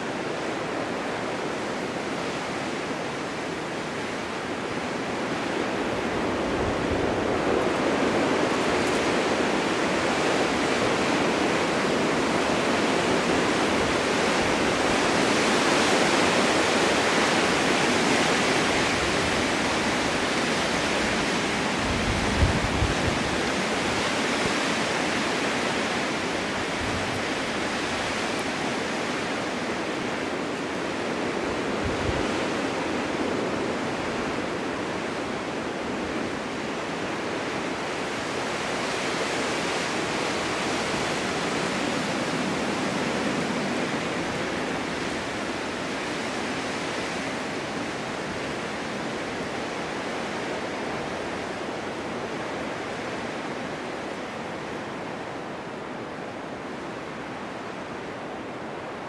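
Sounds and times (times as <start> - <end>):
strong wind blowing: 0.0 - 59.0.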